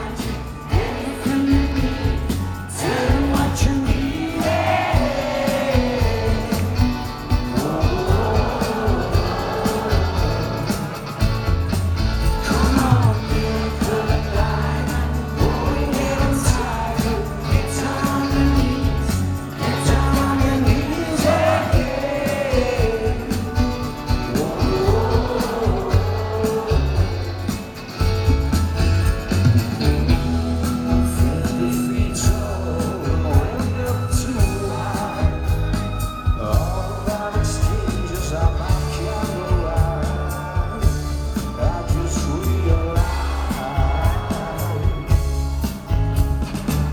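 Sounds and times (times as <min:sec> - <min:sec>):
male lead vocal: 0:00.0 - 0:28.6, 0:29.6 - 0:46.7
live rock band playing: 0:00.0 - 0:46.9.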